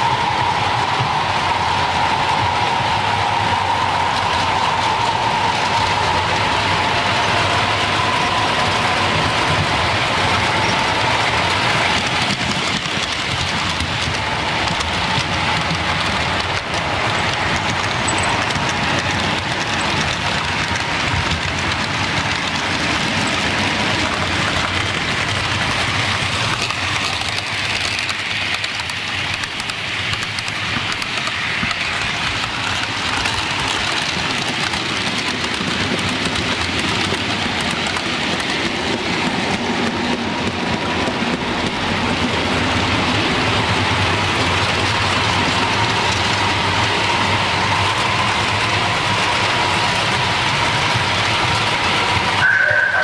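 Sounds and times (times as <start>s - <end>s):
model trains rumbling on track: 0.0s - 53.0s.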